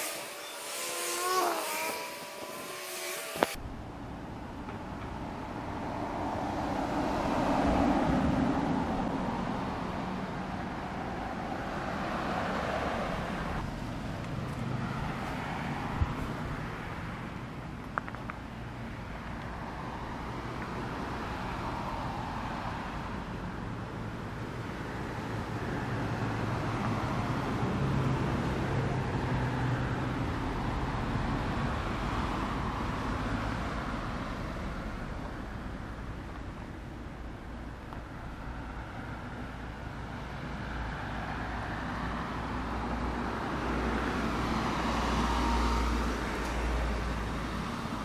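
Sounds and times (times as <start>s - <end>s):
cars passing on road: 0.0s - 48.0s
steady traffic background: 0.0s - 48.0s.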